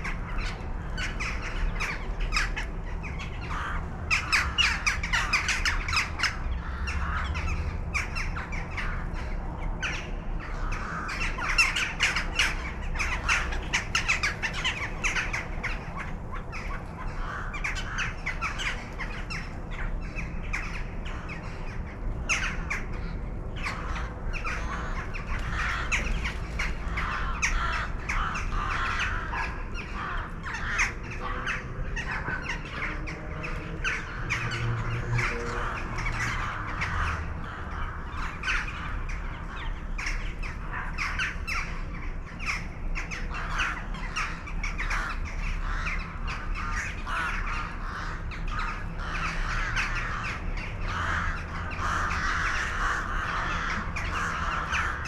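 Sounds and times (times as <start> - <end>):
birds squawking: 0.0 - 55.0.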